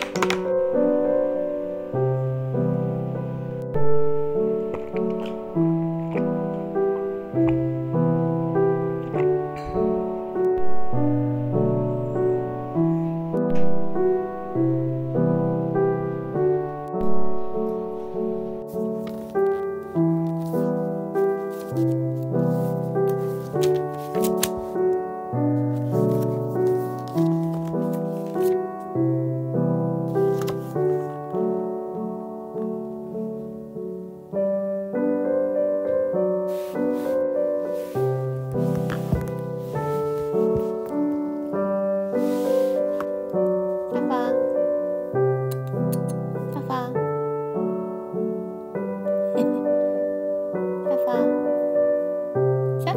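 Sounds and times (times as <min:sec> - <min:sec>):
slow piano melody: 0:00.0 - 0:52.9.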